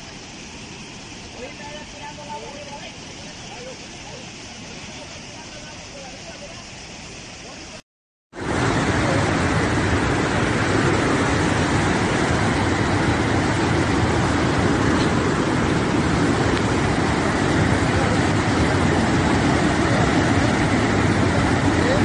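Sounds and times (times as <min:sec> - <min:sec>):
river in flood rushing: 0:00.0 - 0:07.8, 0:08.4 - 0:22.0.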